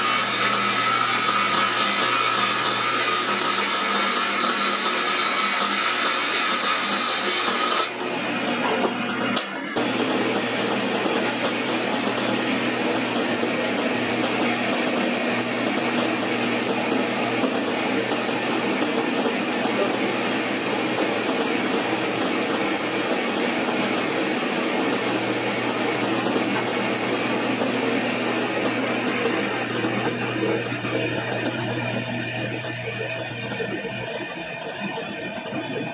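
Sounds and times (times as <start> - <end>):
panel saw running: 0.0 - 35.5.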